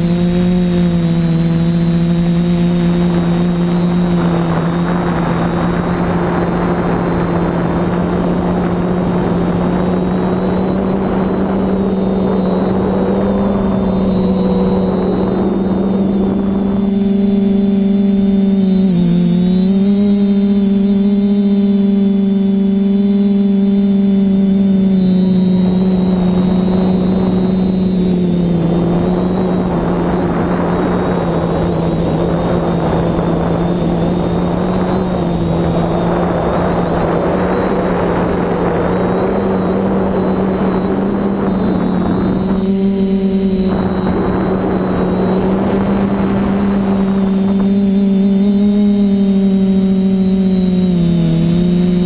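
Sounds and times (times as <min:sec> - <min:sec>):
rushing air noise: 0:00.0 - 0:21.4, 0:23.6 - 0:52.0
quadcopter motors humming: 0:00.0 - 0:52.0.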